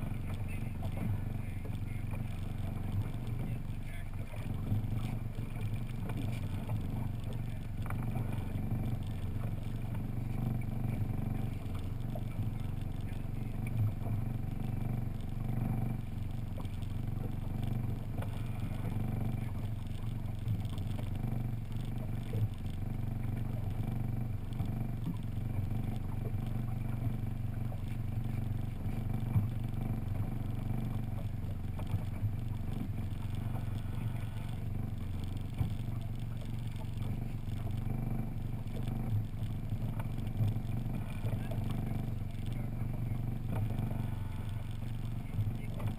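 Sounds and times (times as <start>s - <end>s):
outboard motor running: 0.0s - 45.9s.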